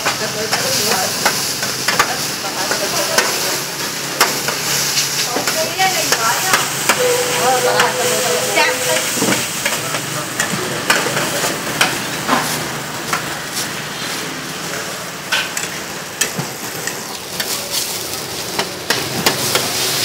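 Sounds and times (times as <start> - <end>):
noodles sizzling on a griddle: 0.0 - 7.0, 8.1 - 20.0.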